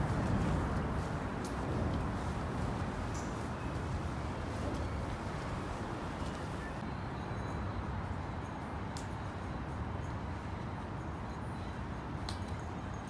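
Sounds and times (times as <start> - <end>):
low city traffic rumble: 0.0 - 13.0.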